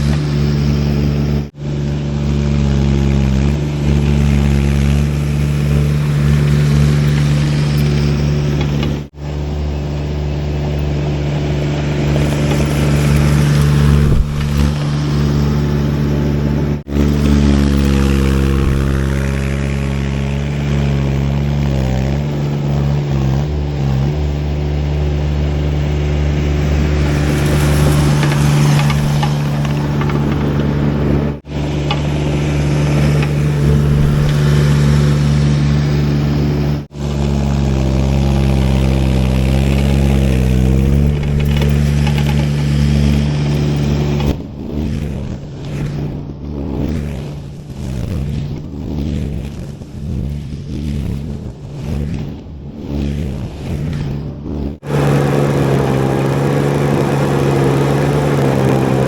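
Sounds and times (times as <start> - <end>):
skid steer engine running: 0.0 - 46.4, 52.8 - 59.0.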